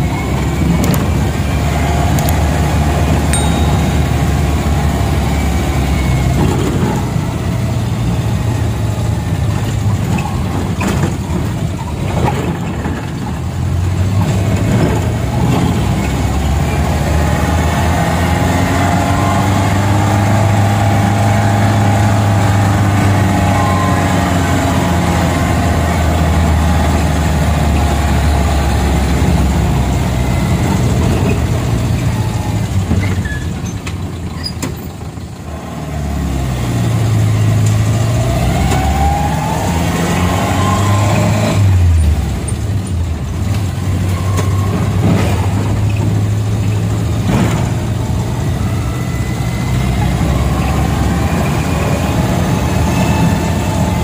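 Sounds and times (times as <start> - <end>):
minibus engine running: 0.0 - 54.0.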